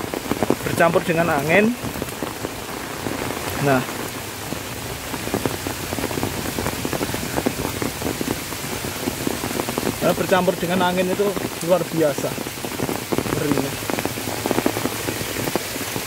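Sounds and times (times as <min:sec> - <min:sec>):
rain on umbrella: 0:00.0 - 0:16.0.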